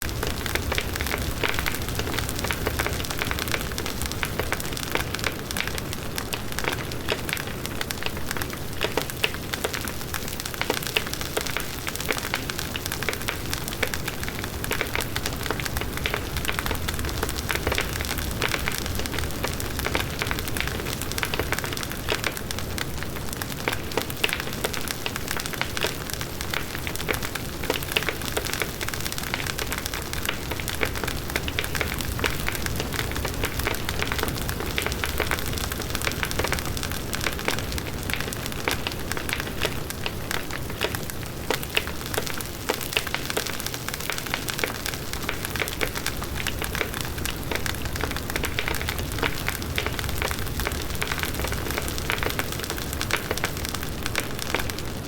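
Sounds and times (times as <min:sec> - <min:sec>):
wood crackling and popping: 0:00.0 - 0:55.0.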